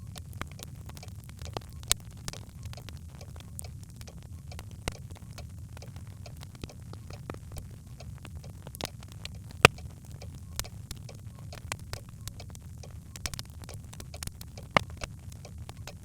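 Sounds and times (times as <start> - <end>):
logs crackling and snapping: 0.0 - 16.0
low rumble of fire: 0.0 - 16.0.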